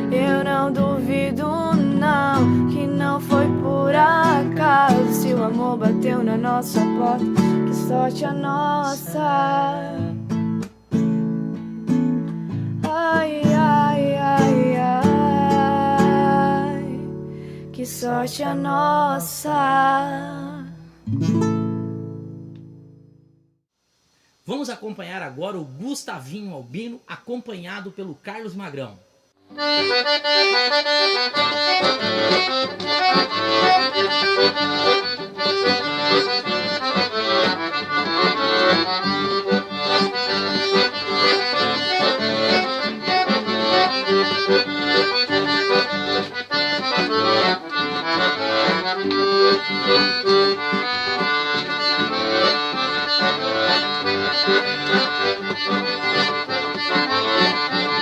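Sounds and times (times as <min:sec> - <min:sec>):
accordion playing: 0:00.0 - 0:21.5, 0:29.4 - 0:58.0.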